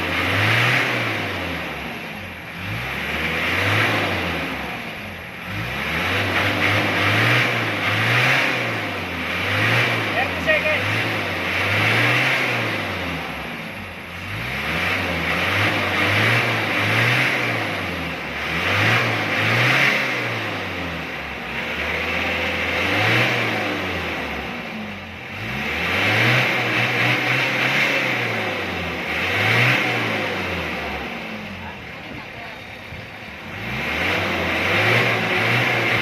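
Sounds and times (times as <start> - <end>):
diesel engine free-revving: 0.0 - 36.0.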